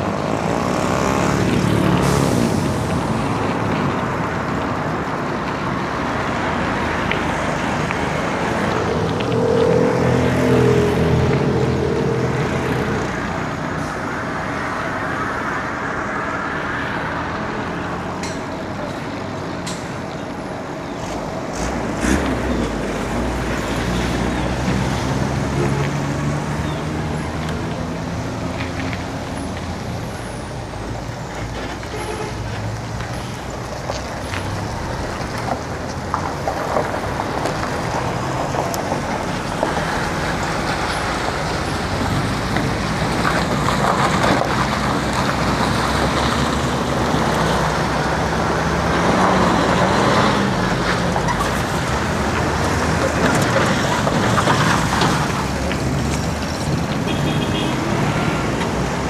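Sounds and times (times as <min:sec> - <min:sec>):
passing vehicle engines: 0:00.0 - 0:59.0
road noise rush: 0:00.0 - 0:59.0.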